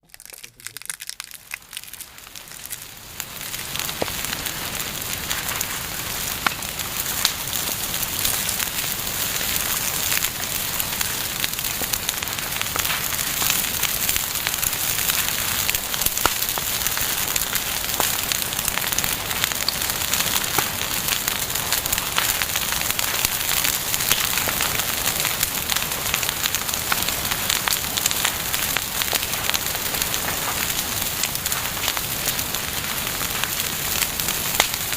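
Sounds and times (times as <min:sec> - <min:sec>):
bonfire crackling: 0:00.0 - 0:34.9.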